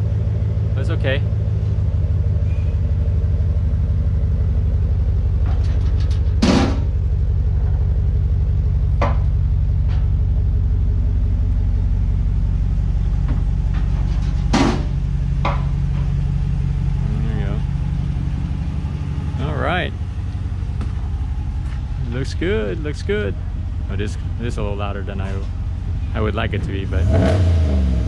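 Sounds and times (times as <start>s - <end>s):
truck engine idling: 0.0s - 27.1s.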